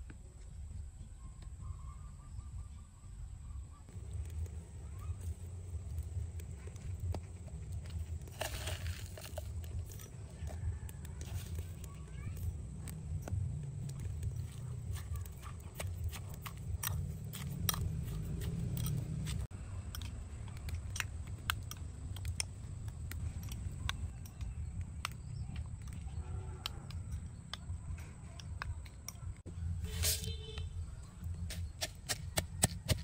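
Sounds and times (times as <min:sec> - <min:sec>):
steady low rumble: 0:03.1 - 0:32.6.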